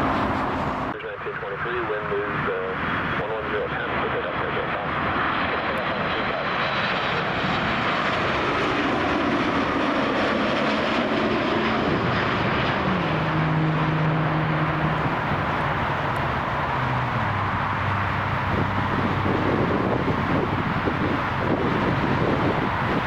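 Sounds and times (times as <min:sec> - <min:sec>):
jet airliner engines passing: 0:00.0 - 0:23.0.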